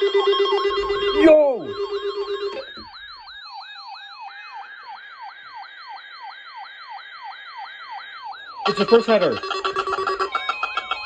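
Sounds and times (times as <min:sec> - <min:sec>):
electronic alarm yelping: 0:00.0 - 0:05.1, 0:05.7 - 0:11.0.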